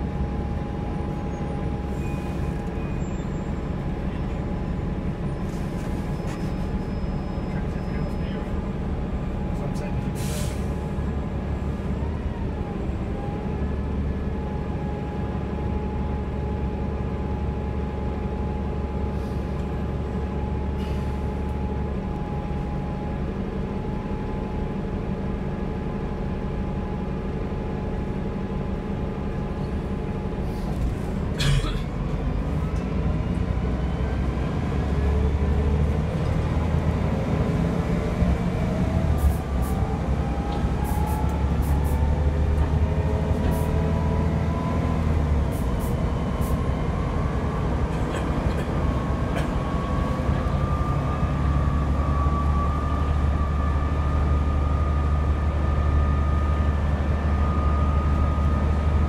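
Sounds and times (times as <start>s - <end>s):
bus engine and transmission whine: 0.0s - 59.0s.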